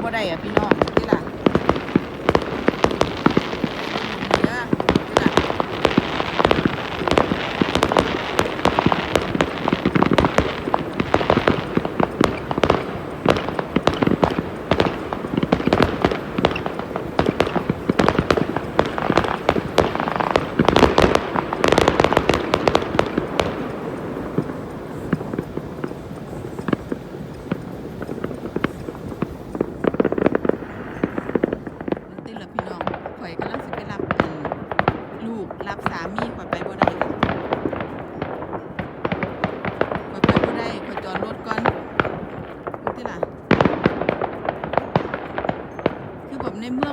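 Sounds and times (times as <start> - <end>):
firecrackers crackling and popping: 0.0 - 46.9.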